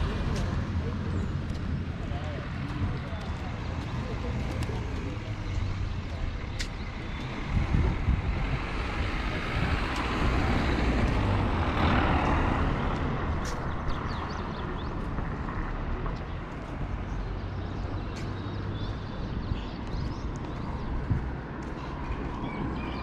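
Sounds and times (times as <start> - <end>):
low rumble of traffic: 0.0 - 23.0.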